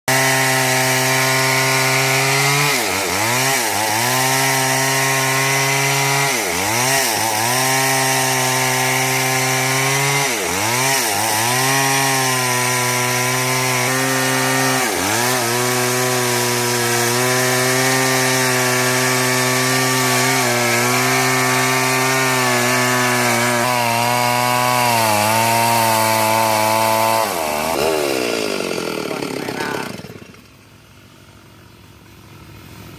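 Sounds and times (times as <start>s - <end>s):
chainsaw cutting a tree: 0.1s - 32.9s.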